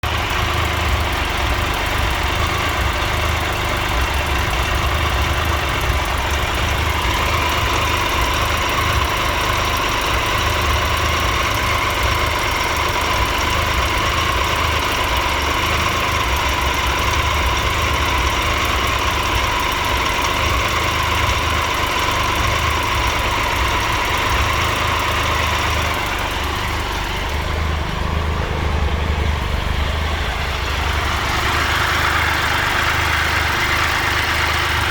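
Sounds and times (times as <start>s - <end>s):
engine ticking rattle: 0.0s - 34.9s
motorcycle engine idling: 0.0s - 34.9s.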